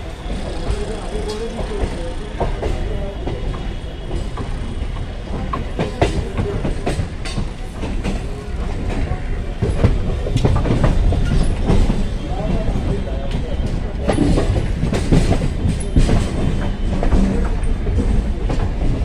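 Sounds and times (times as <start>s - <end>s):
train wheels rumbling: 0.0s - 19.0s
wheels clicking over rail joints: 0.1s - 19.0s.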